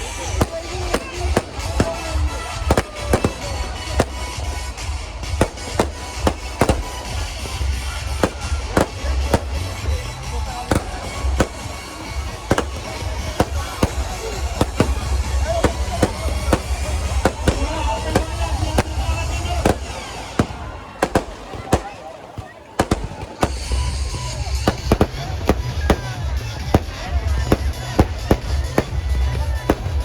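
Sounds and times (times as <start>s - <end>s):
fireworks bangs and cracks: 0.0s - 30.0s.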